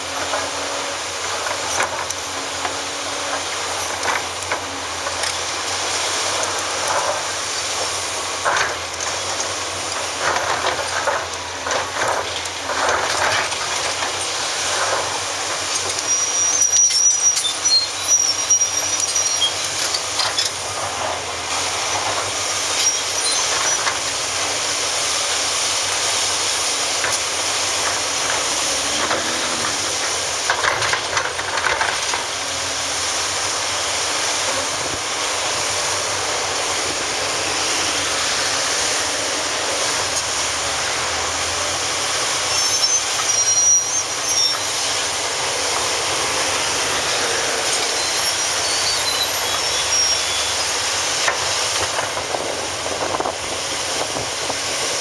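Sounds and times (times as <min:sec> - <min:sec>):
excavator engine and hydraulics: 0:00.0 - 0:55.0.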